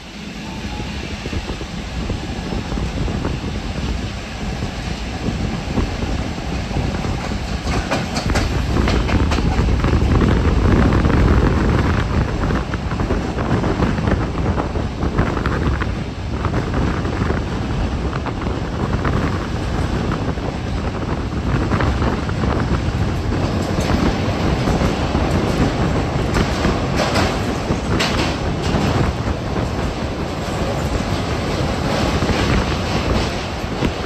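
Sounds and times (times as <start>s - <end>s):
train wheels rumbling on track: 0.0s - 34.0s
rail joints clicking and clattering: 2.0s - 34.0s.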